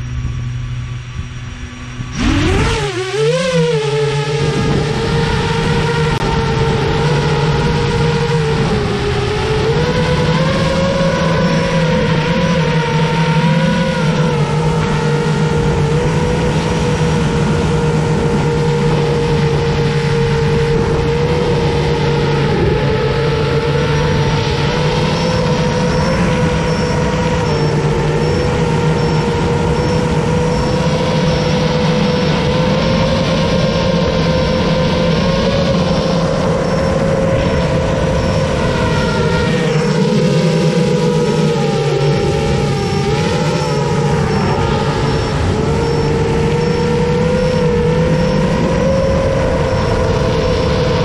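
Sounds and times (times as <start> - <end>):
drone motors and propellers whining: 0.0 - 51.0.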